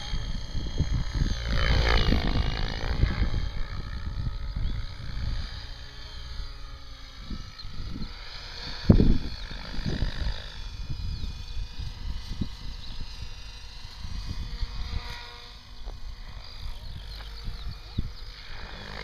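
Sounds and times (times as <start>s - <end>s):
rc helicopter rotor whine: 0.0s - 19.0s
wind buffeting microphone: 0.0s - 19.0s.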